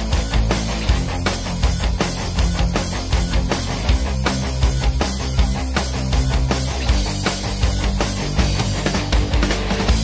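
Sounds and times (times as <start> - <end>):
hard rock music: 0.0 - 10.0.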